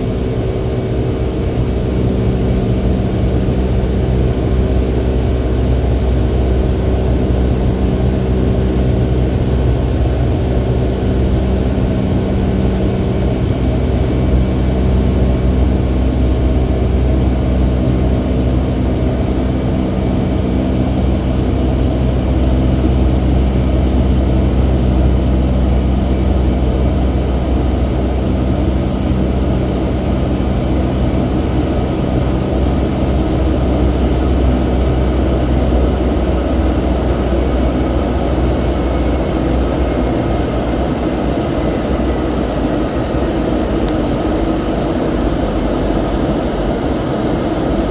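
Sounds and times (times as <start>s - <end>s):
jet engine cabin drone: 0.0s - 47.9s
steady hum tones: 0.0s - 47.9s.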